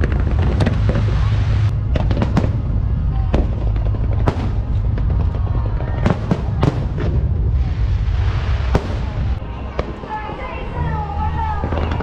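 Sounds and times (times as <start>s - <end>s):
fireworks bursting with bangs: 0.0s - 10.8s
deep rumble: 0.0s - 12.0s.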